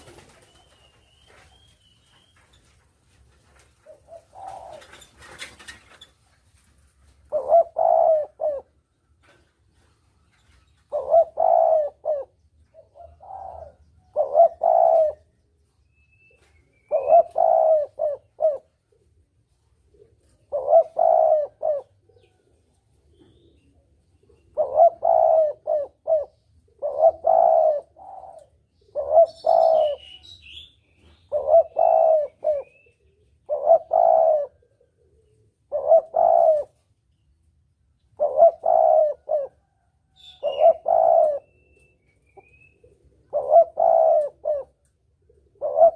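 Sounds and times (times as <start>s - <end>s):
dove cooing: 3.5s - 6.1s, 7.1s - 9.9s, 10.8s - 15.8s, 16.4s - 36.9s, 38.0s - 45.9s.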